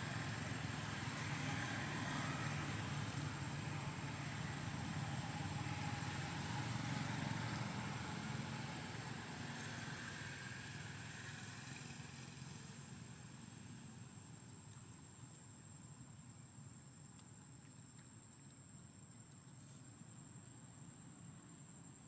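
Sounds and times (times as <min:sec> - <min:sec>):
vehicle engine hum: 0:00.0 - 0:21.9.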